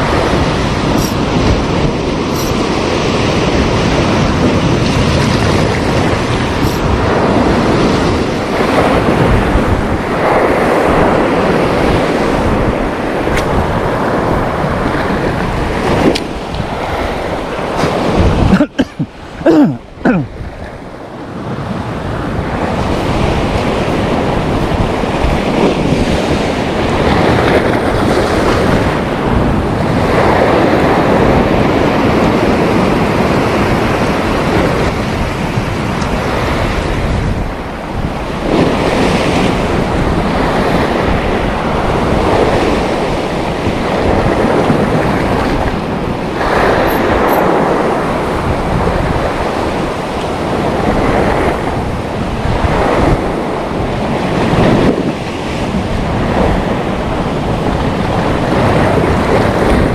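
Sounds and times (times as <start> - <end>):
sea waves washing on shore: 0.0 - 59.9
wind buffeting microphone: 0.0 - 59.9.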